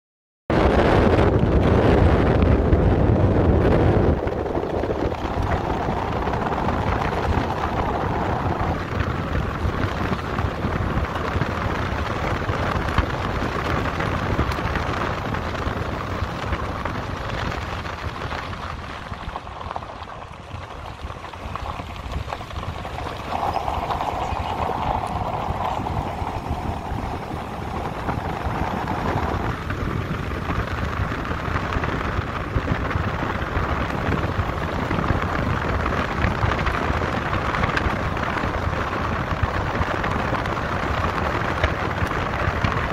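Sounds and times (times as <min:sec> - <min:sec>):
car tyres rolling on road: 0:00.5 - 0:42.9
wind rushing over microphone: 0:00.5 - 0:42.9.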